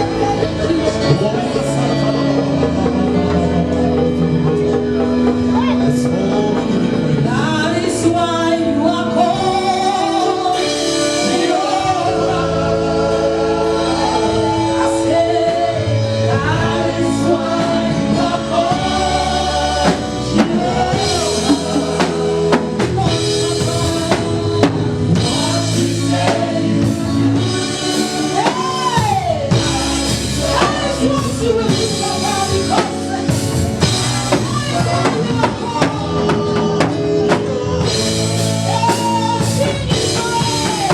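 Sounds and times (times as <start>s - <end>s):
gospel singing with band: 0.0s - 40.9s.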